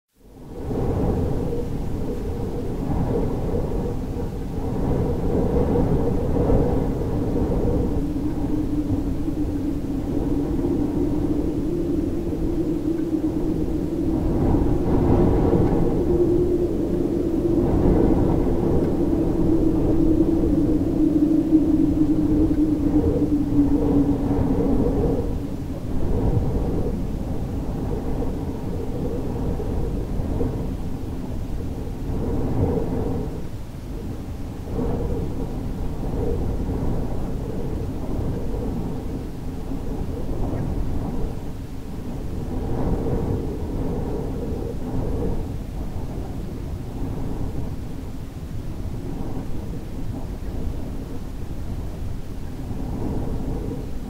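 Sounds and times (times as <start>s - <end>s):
deep rumbling wind: 0.1s - 54.0s.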